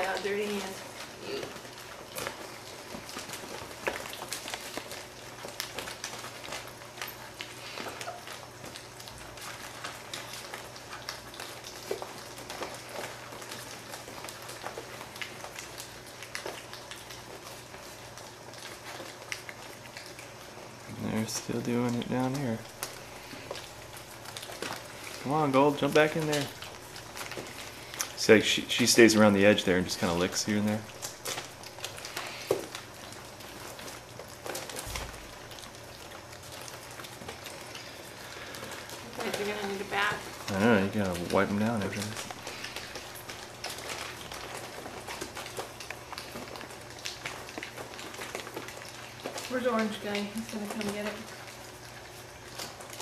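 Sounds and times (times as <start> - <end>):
puppies lapping wet food: 0.0 - 53.0.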